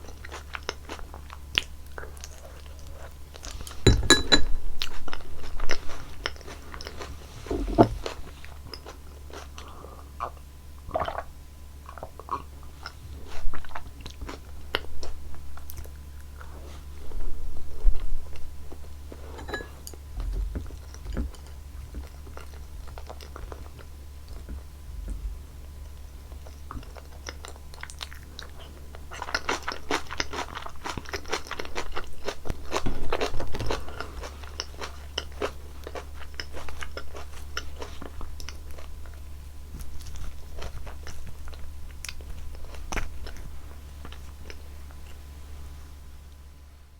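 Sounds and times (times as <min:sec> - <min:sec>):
close chewing with crackles: 0:00.0 - 0:03.9, 0:04.6 - 0:46.5
steady low hum: 0:00.0 - 0:46.9.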